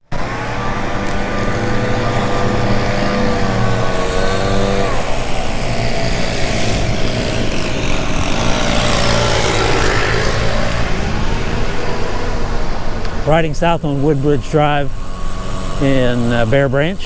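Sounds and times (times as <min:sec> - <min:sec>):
passing motor vehicle hum: 0:00.0 - 0:17.0
wind and road rumble: 0:00.0 - 0:17.0.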